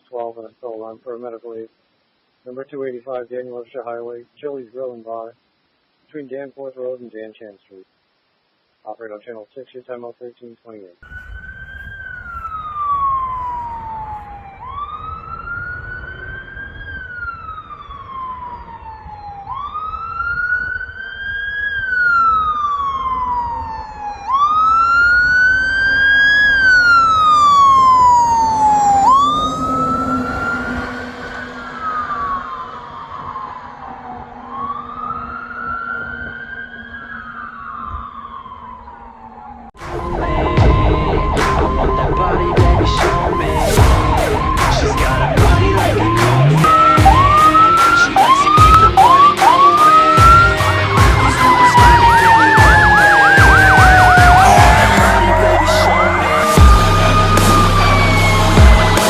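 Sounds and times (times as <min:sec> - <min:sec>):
fire engine siren wailing: 0:11.0 - 0:59.0.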